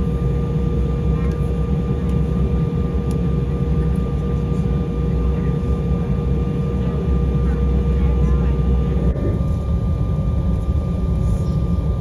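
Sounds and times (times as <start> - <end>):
jet engines idling low rumble: 0.0 - 12.0
steady hum: 0.0 - 12.0.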